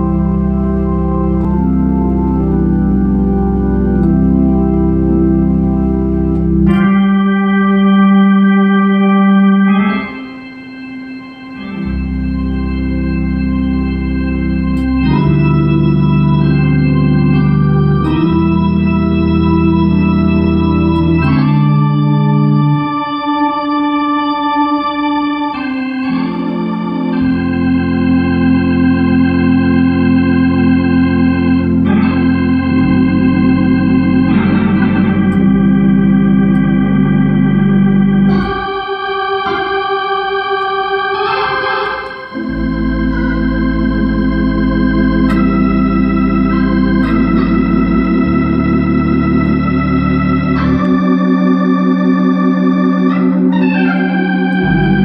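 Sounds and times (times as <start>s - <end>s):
low bass line: 0.0s - 9.8s, 11.5s - 23.1s, 26.5s - 38.9s, 42.3s - 55.0s
organ playing gospel chords: 0.0s - 55.0s.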